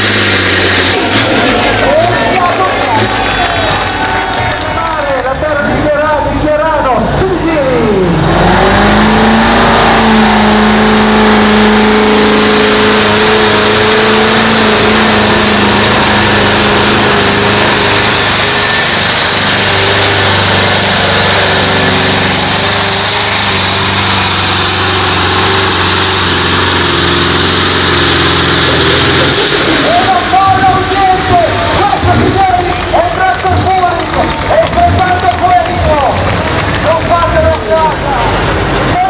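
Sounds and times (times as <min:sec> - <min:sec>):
tractor engine running under load: 0:00.0 - 0:39.0.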